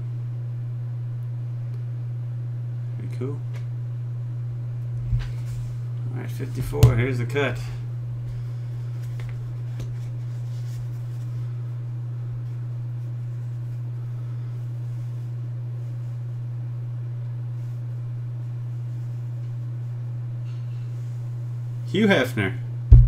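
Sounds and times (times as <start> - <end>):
low hum: 0.0 - 21.8, 22.6 - 23.0.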